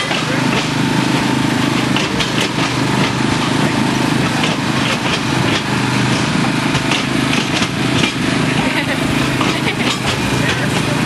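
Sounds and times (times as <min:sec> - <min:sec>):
diesel locomotive engine running: 0:00.0 - 0:11.0.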